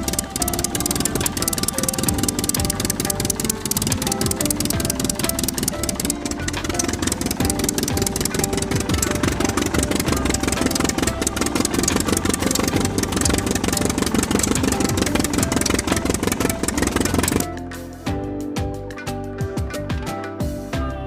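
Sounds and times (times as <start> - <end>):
engine chugging: 0.0 - 17.5.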